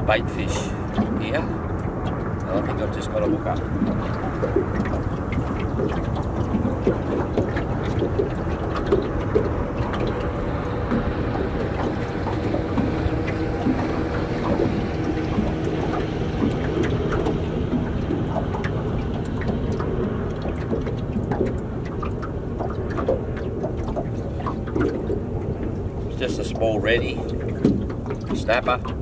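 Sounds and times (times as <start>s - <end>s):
water tapping on boat hull: 0.0s - 29.0s
wind and water rumble: 0.0s - 29.0s.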